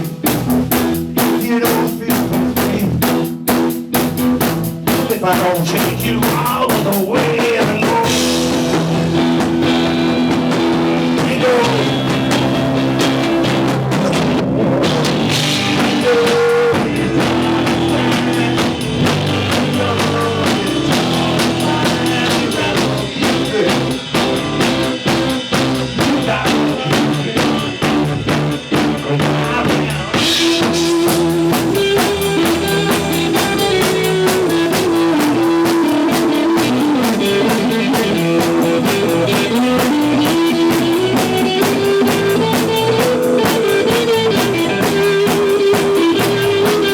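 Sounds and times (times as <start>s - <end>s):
rock band playing instrumental: 0.0s - 46.9s.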